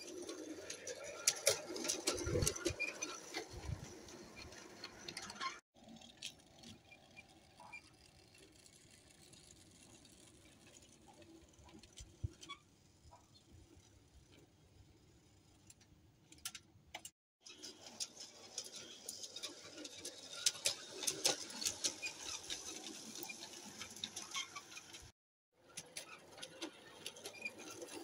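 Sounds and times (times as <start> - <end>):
model train wheels clicking on rails: 0.0 - 28.0.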